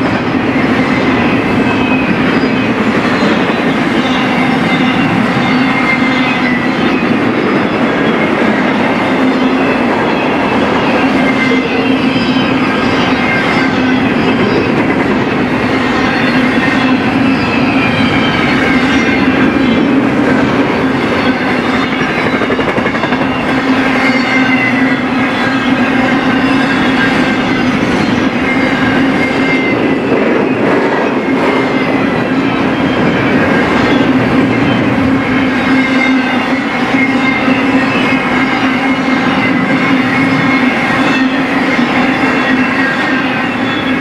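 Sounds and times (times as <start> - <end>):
freight train wheels humming: 0.0 - 44.0
wheel squeal: 0.0 - 44.0.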